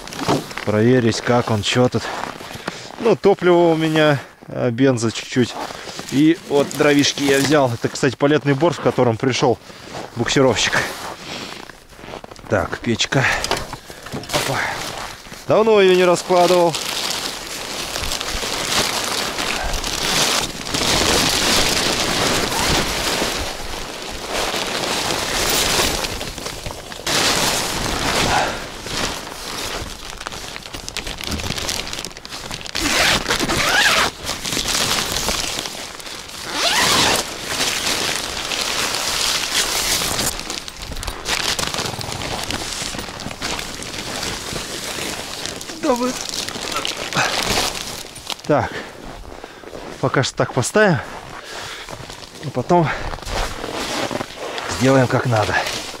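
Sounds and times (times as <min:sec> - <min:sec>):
tent fabric rustling and flapping: 0:09.6 - 0:56.0.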